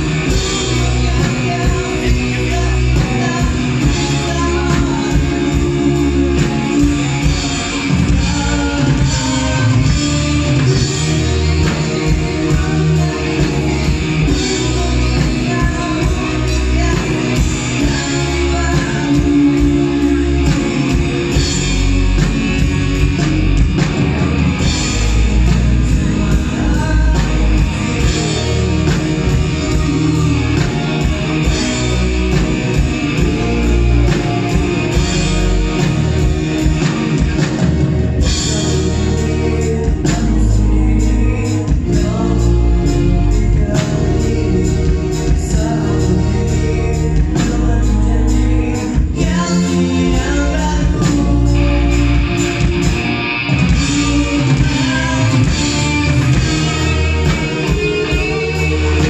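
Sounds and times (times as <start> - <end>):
live rock band playing: 0.0 - 59.0
man singing: 0.0 - 59.0.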